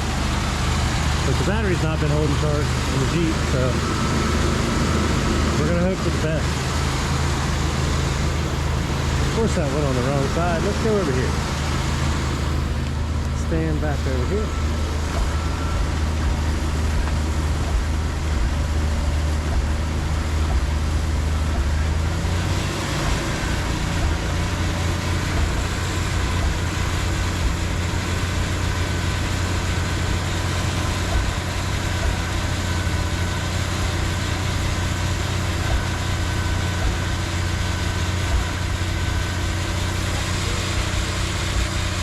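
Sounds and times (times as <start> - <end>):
electric winch motor whine: 0.0 - 42.0
engine idling: 0.0 - 42.0.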